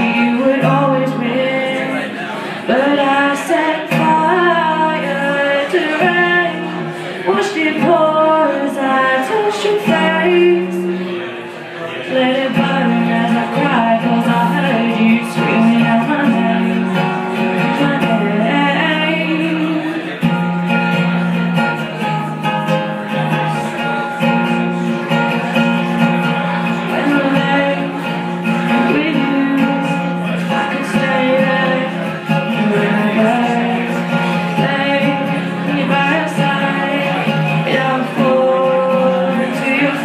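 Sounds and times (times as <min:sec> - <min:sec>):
woman singing a ballad: 0:00.0 - 0:11.2, 0:12.1 - 0:20.1, 0:26.8 - 0:40.0
acoustic guitar strumming: 0:00.0 - 0:40.0.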